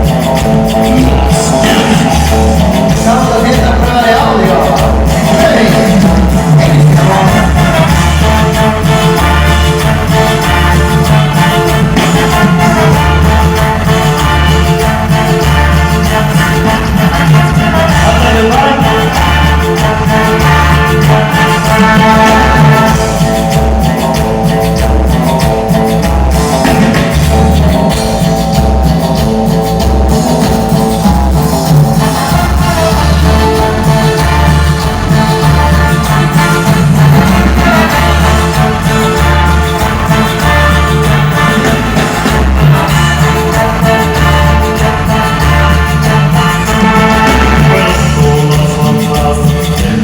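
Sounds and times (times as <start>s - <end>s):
band playing instrumental: 0.0s - 50.0s
low bass pulse: 0.0s - 50.0s.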